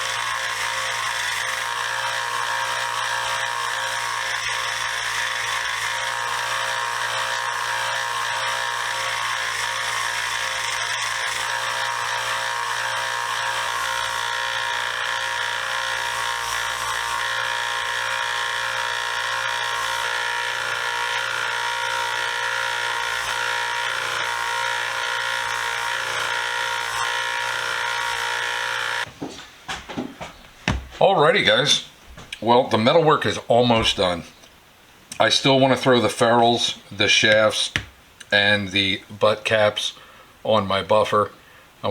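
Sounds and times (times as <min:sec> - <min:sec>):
belt sander grinding steel: 0:00.0 - 0:29.1, 0:30.3 - 0:39.9.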